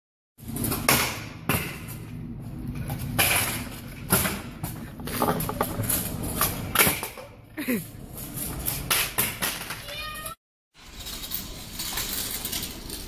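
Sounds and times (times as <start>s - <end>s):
scooter wheels rolling on concrete: 0.4s - 13.0s.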